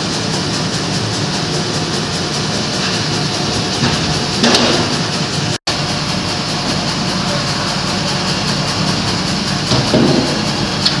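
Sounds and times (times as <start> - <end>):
sawmill machinery rattling: 0.0 - 11.0.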